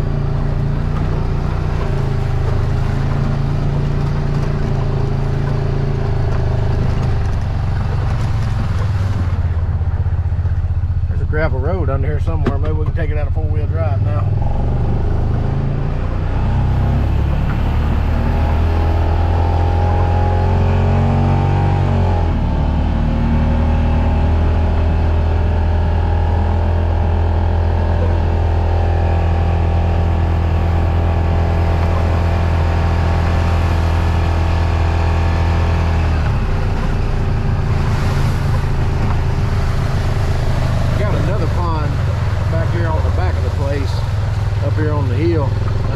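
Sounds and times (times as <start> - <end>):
vehicle engine driving: 0.0 - 45.9.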